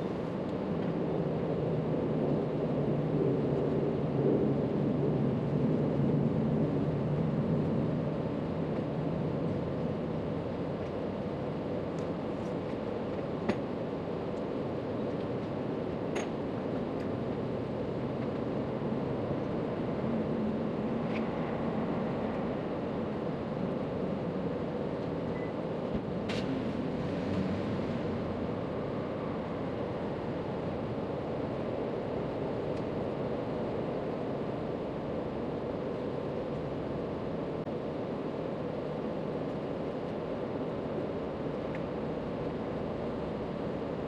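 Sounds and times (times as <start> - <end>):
outdoor rumble and hiss: 0.0 - 44.0.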